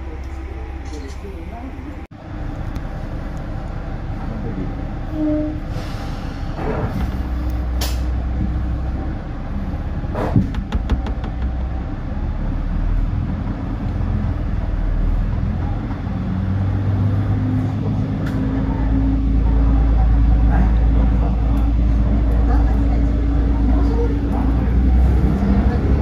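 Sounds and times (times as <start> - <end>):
diesel railcar engine: 0.0 - 26.0.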